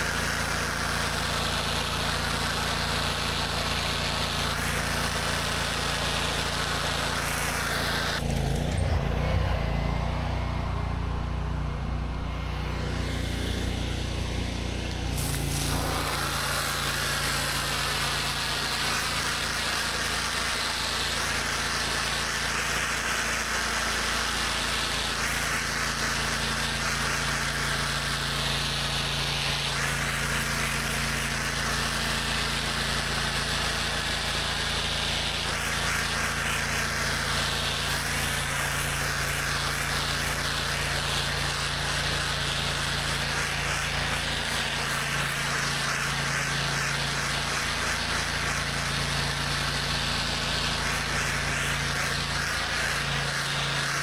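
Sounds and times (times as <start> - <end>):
pressure washer engine running: 0.0 - 54.0
water spraying onto concrete: 0.0 - 54.0.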